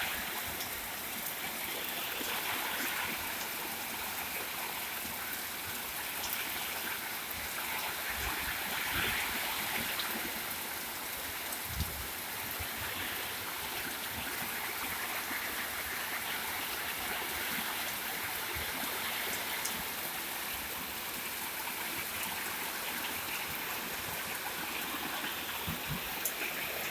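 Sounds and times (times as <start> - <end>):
heavy rain pouring: 0.0 - 26.9
water drips and splashes: 0.0 - 26.9.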